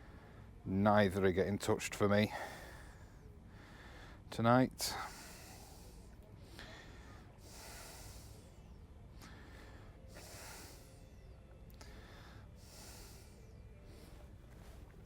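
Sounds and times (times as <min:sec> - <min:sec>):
person breathing slowly: 0:02.3 - 0:15.0.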